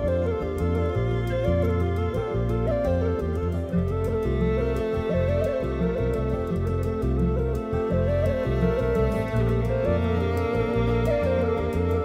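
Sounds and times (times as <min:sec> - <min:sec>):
fiddle melody: 0:00.0 - 0:12.0
guitar: 0:00.0 - 0:12.0.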